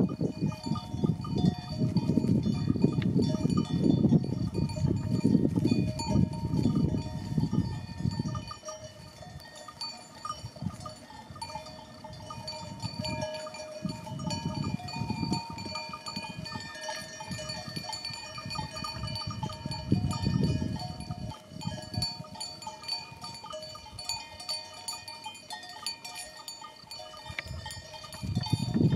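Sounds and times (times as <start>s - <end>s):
wind rumble on microphone: 0.0s - 24.5s, 27.2s - 28.9s
animal bells clinking: 0.0s - 28.9s.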